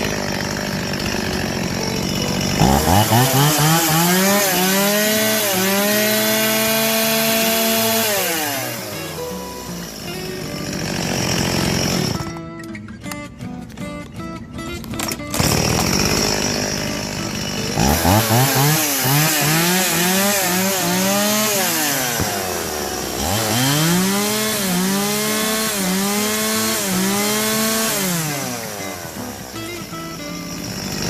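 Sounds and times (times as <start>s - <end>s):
chainsaw engine revving: 0.0s - 12.5s, 15.0s - 31.0s.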